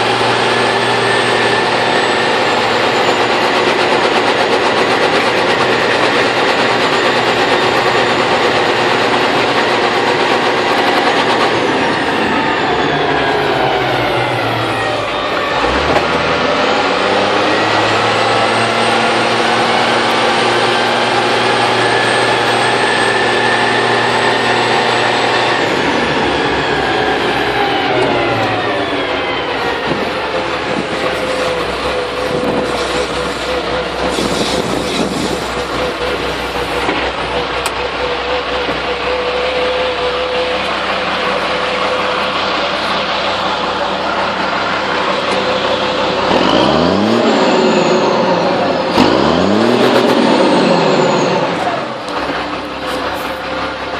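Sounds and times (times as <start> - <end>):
steady whine: 0.0 - 53.9
truck diesel engine under load: 0.0 - 53.9.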